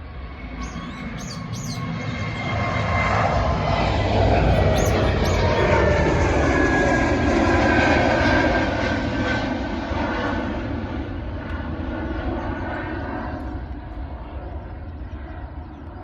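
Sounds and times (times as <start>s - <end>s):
airplane engine drone overhead: 0.0s - 16.0s.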